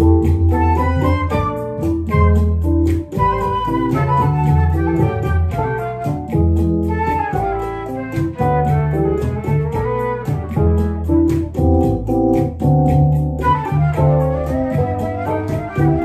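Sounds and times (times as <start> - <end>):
electric keyboard chords: 0.0 - 16.0
flute melody: 0.0 - 16.0
light ticking beat: 0.0 - 16.0
walking upright bass: 0.0 - 16.0.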